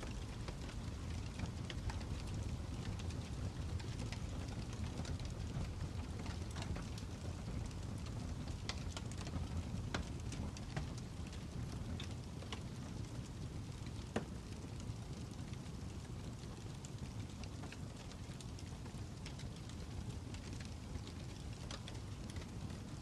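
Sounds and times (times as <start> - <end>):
fire crackling with pops and snaps: 0.0 - 23.0.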